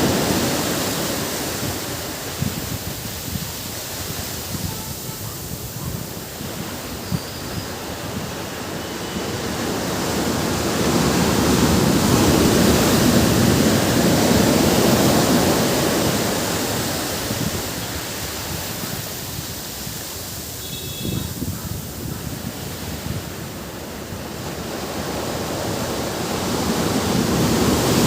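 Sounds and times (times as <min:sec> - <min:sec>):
sea waves washing on beach: 0:00.0 - 0:28.0.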